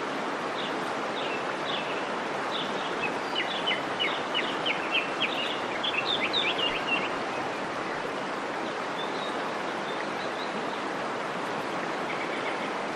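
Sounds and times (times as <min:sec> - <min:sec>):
falling water rushing: 0:00.0 - 0:12.9.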